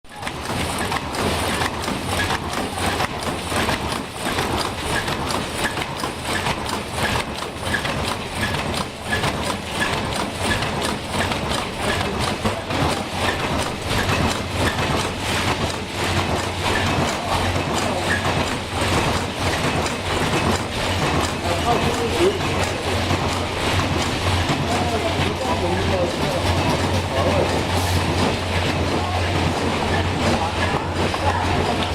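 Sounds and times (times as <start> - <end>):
strapping machine clattering: 0.1 - 31.9.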